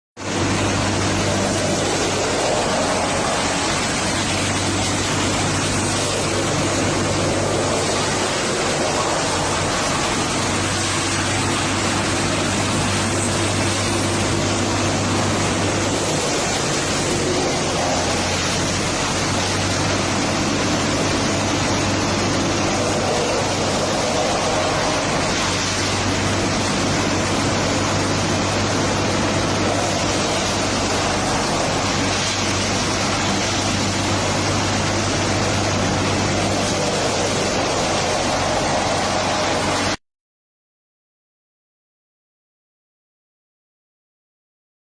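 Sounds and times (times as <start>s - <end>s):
wood crusher grinding: 0.3s - 39.8s.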